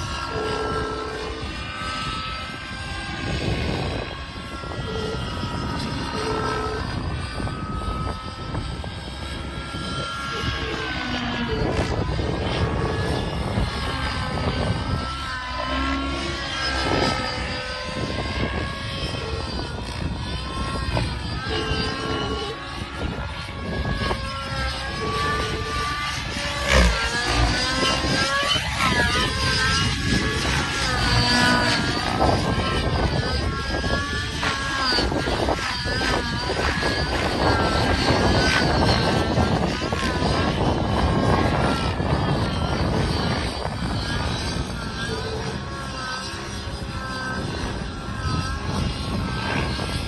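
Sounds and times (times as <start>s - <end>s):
model helicopter engine and rotor: 0.0s - 50.0s.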